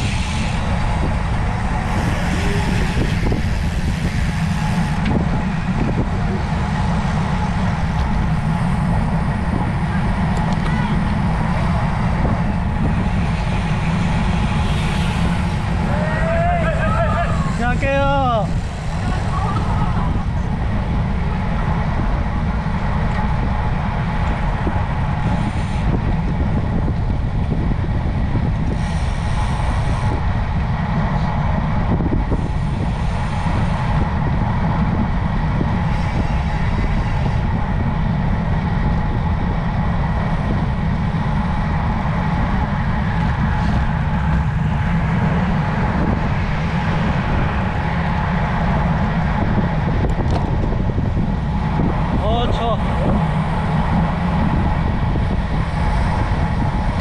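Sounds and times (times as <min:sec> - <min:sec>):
bike road noise rumble: 0:00.0 - 0:57.0
wind rush on microphone: 0:00.0 - 0:57.0.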